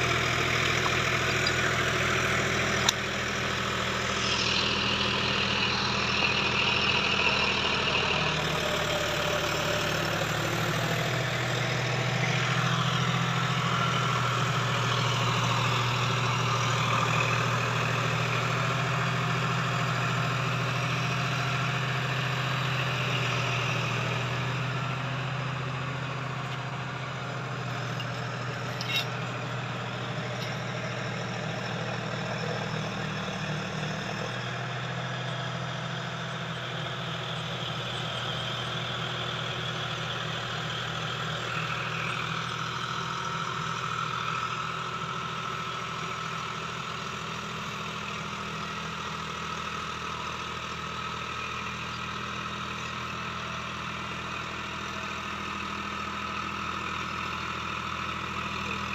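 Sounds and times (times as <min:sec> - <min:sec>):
rotavator tilling soil: 0:00.0 - 0:52.0
tractor diesel engine running: 0:00.0 - 0:58.9.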